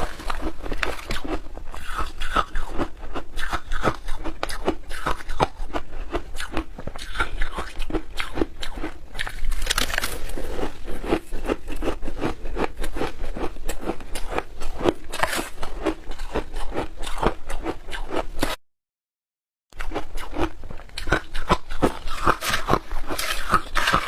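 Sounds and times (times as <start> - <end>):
crunching shaved ice: 0.0 - 18.2, 19.9 - 24.0.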